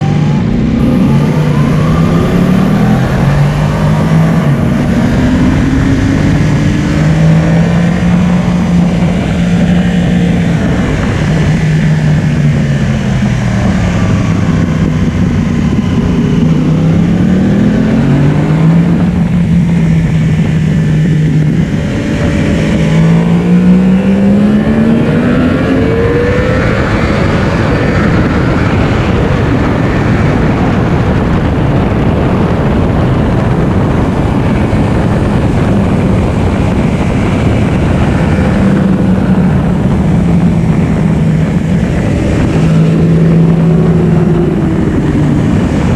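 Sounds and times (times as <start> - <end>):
heavy wind rush: 0.0 - 45.9
motorcycle engine accelerating: 0.0 - 45.9.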